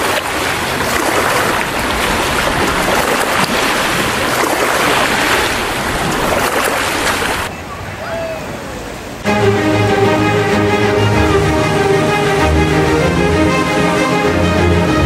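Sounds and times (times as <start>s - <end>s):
waves breaking and churning: 0.0s - 15.0s.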